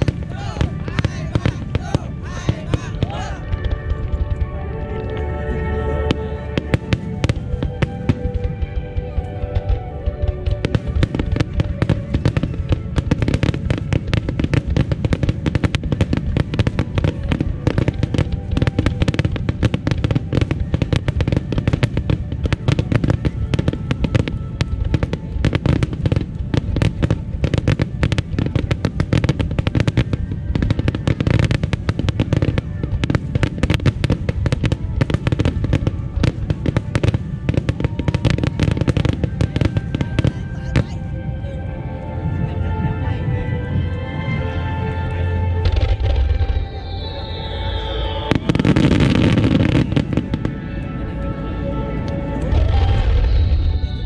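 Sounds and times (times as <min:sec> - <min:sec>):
deep rumble: 0:00.0 - 0:38.6, 0:39.2 - 0:54.0
fireworks booming and crackling: 0:00.0 - 0:54.0.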